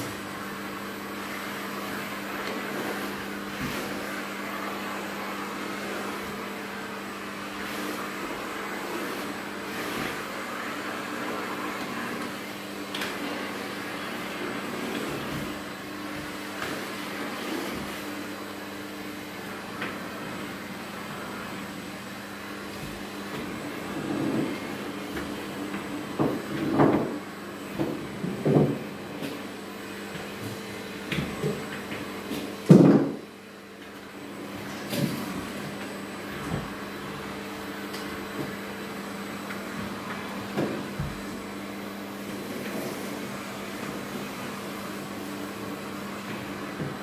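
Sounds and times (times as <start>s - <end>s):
vacuum cleaner humming: 0.0s - 47.0s.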